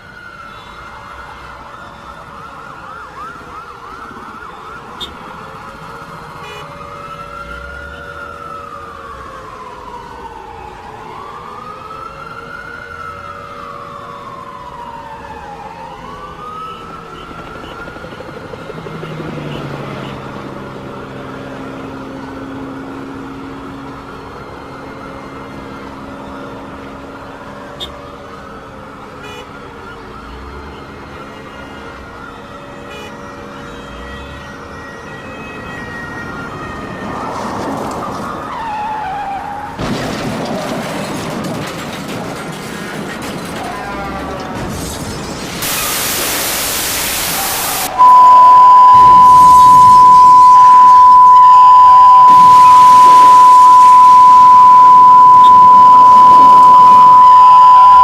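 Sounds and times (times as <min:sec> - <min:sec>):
low steady siren tone: 0:00.0 - 0:39.8, 0:47.1 - 0:58.0
emergency siren wailing: 0:00.0 - 0:42.6, 0:45.6 - 0:58.0.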